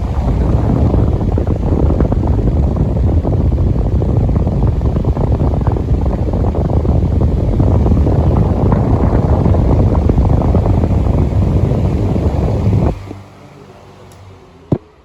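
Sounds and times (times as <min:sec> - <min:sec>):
electric fan airflow rumble: 0:00.0 - 0:15.0.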